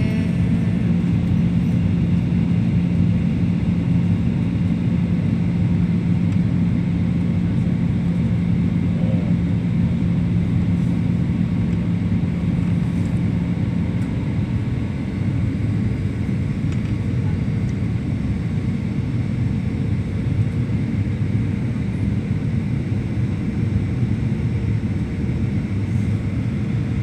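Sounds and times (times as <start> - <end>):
airliner engine and airflow drone: 0.0 - 27.0
constant low hum: 0.0 - 27.0.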